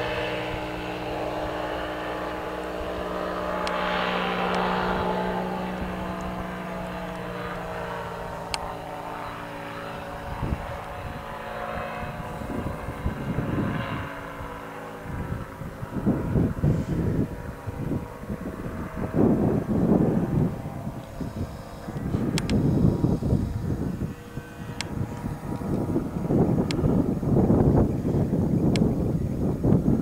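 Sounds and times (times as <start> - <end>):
light aircraft engine droning: 0.0 - 30.0
wind buffeting microphone: 0.0 - 30.0.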